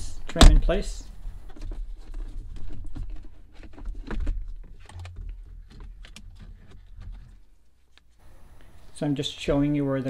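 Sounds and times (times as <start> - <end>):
rustling of gloved hands: 1.1 - 10.0.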